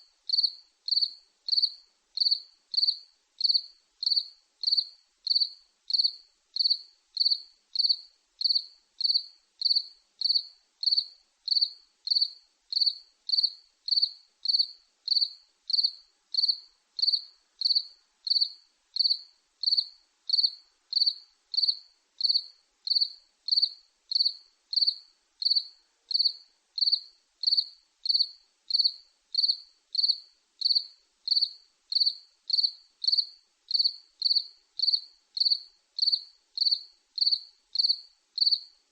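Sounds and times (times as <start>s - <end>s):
cricket chirping: 0.0s - 38.8s.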